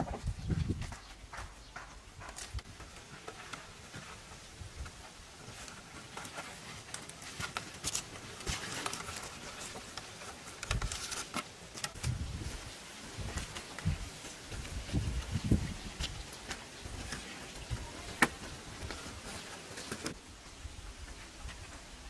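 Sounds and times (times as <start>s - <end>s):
fibre lashing rustling and creaking: 0.0s - 20.2s.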